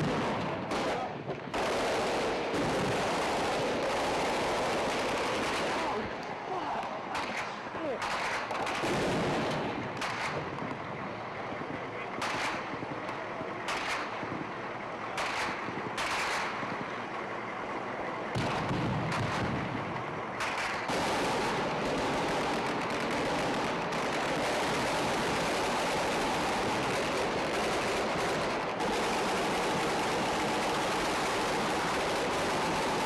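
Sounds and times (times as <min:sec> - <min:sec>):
gunshots and bursts: 0:00.0 - 0:10.9, 0:11.6 - 0:17.0, 0:18.3 - 0:33.0
dense rushing noise: 0:00.0 - 0:33.0
steady noisy background: 0:00.0 - 0:33.0.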